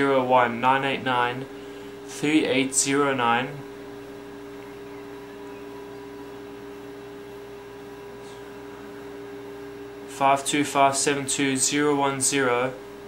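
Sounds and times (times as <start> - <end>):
electrical hum with tones: 0.0 - 13.0.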